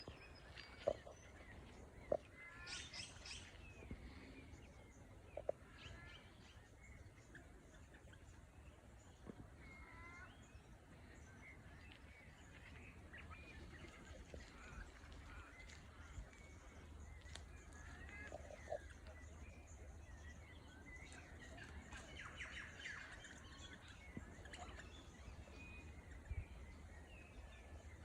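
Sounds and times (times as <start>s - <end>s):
faint bird calls: 0.0s - 28.0s.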